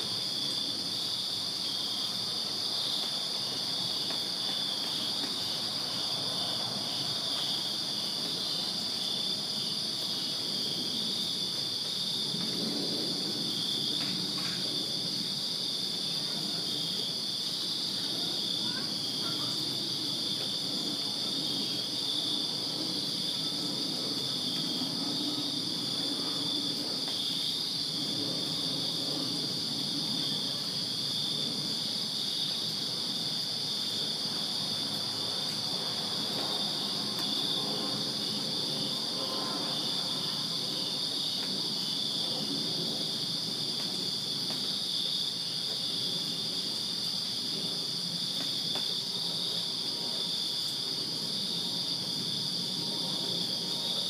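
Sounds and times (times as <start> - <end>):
crickets trilling: 0.0 - 54.0
pulsing cricket chirp: 0.0 - 54.0.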